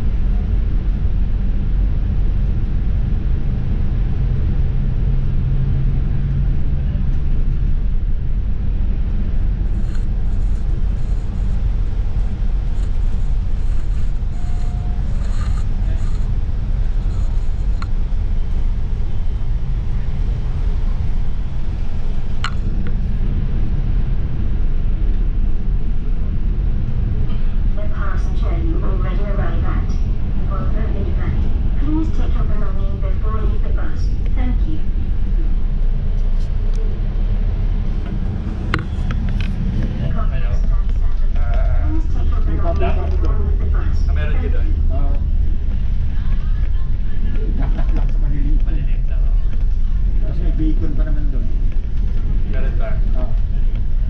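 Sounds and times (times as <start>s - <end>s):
bus engine rumble: 0.0s - 54.0s
road noise: 0.0s - 54.0s.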